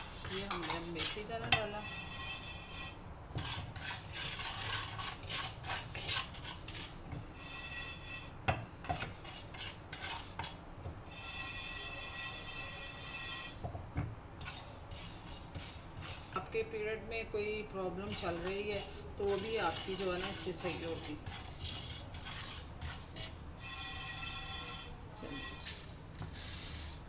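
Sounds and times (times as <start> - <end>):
spatula scraping frying pan: 0.0 - 13.6, 14.4 - 16.5, 18.0 - 27.0.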